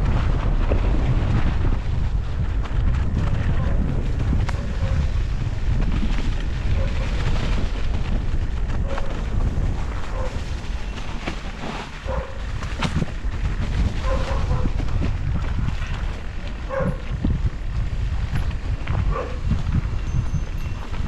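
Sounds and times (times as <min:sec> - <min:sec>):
wind buffeting microphone: 0:00.0 - 0:21.0
bike clicks and knocks: 0:02.5 - 0:21.0.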